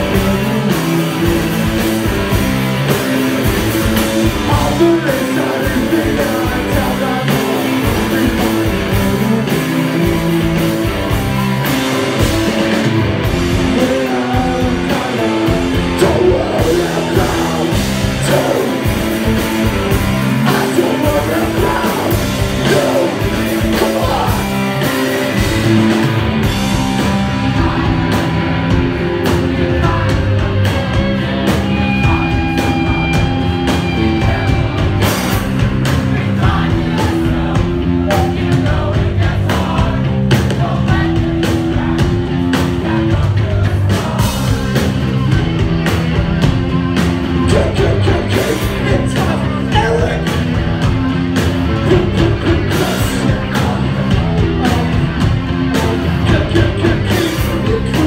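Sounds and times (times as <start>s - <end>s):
person singing: 0.0s - 2.1s, 4.2s - 10.9s, 13.5s - 24.6s, 27.2s - 28.5s, 29.2s - 45.0s, 47.4s - 58.0s
punk rock band playing: 0.0s - 58.0s.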